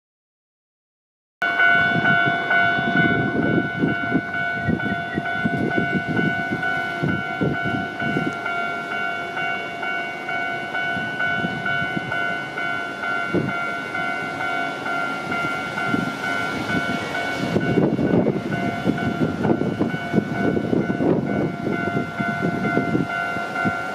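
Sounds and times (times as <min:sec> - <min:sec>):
train rumbling past: 0:01.4 - 0:23.9.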